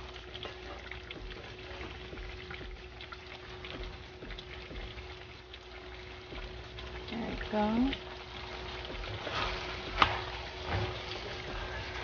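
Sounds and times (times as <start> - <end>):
glaze bubbling in a saucepan: 0.0 - 12.0
small crackles and pops: 0.2 - 11.8.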